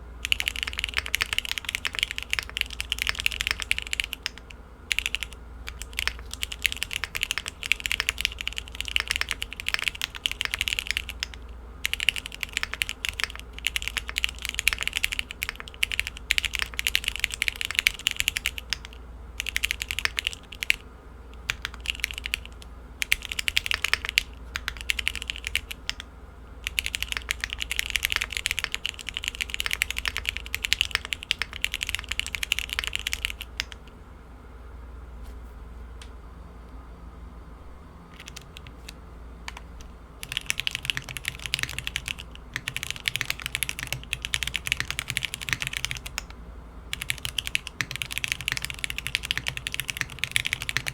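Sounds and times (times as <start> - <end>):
fast typing on mechanical keyboard: 0.2 - 26.0, 26.6 - 33.9, 38.1 - 46.3, 46.9 - 50.9.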